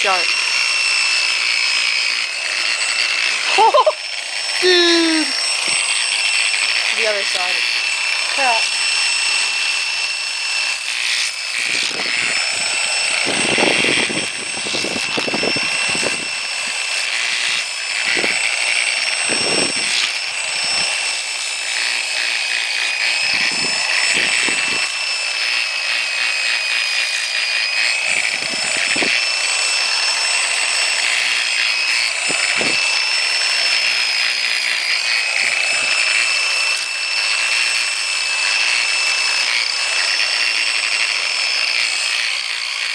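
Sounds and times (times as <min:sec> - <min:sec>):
power tool high-pitched whine: 0:00.0 - 0:42.9
scraping grinding bursts: 0:00.0 - 0:42.9.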